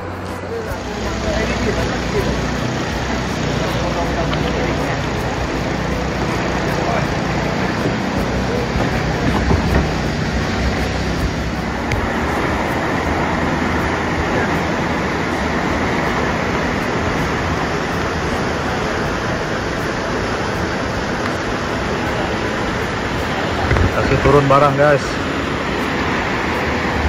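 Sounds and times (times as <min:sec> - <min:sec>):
outboard engine running: 0:00.0 - 0:27.0
river rushing over rapids: 0:00.0 - 0:27.0.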